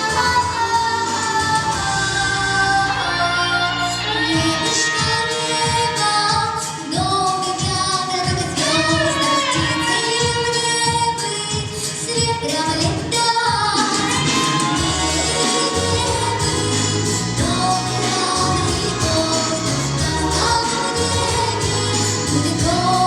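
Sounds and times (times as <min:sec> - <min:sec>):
backing track with steady beat: 0:00.0 - 0:23.0
woman singing pop song: 0:00.0 - 0:23.0.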